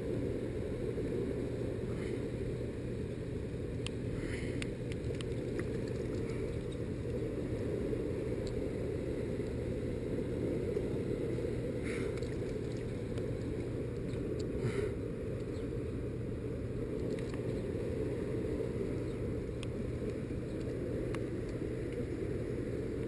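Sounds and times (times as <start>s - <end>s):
muffled river water rumble: 0.0s - 23.0s.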